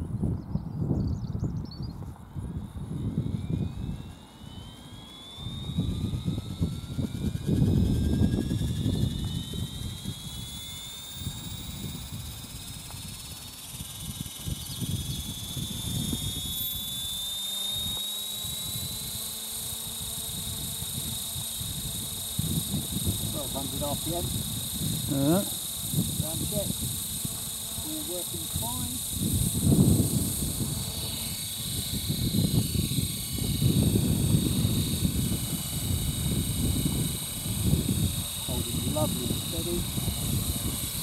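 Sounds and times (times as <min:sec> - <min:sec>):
model helicopter rotor whine: 0:00.0 - 0:41.0.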